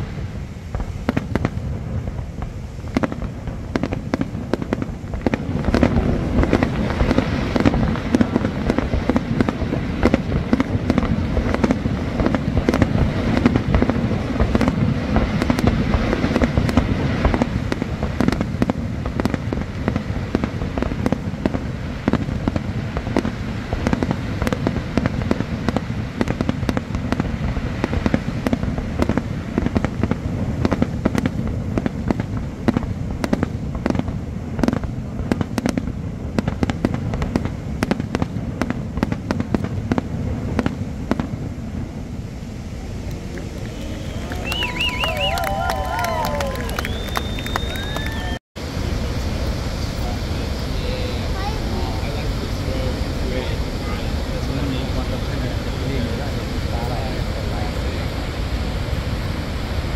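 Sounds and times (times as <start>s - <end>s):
fireworks bangs and crackles: 0.0s - 59.9s
low rumble: 0.0s - 59.9s
sharp firework cracks: 0.0s - 59.9s.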